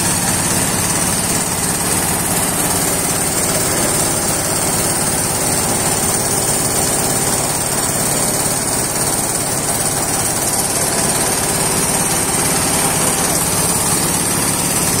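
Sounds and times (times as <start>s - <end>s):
diesel engine beat: 0.0s - 15.0s
mill whirring: 0.0s - 15.0s.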